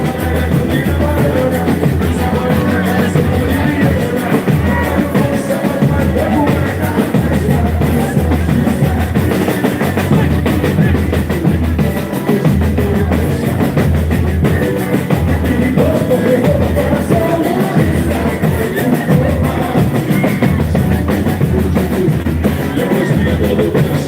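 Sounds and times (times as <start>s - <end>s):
continuous bass: 0.0s - 24.0s
percussion beating dense rhythm: 0.0s - 24.0s.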